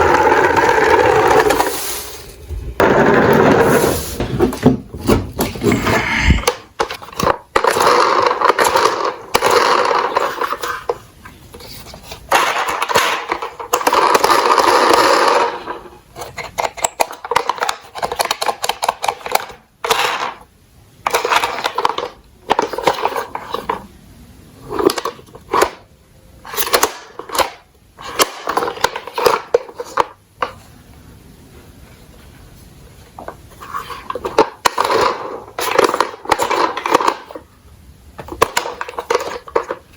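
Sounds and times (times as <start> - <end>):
plastic wheels rolling: 0.0 - 23.9, 24.6 - 30.7, 33.0 - 37.5, 38.2 - 39.9
toy trucks clattering and knocking: 2.8 - 23.9, 24.6 - 30.6, 33.2 - 37.5, 38.2 - 39.9.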